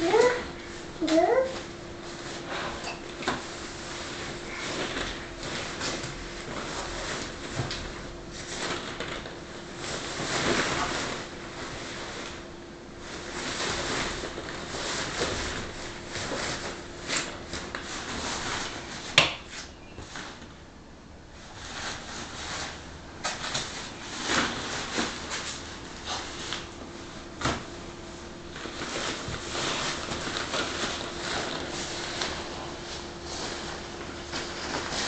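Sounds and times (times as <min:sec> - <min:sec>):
nylon tent rustling: 0:03.5 - 0:19.2, 0:21.5 - 0:35.0.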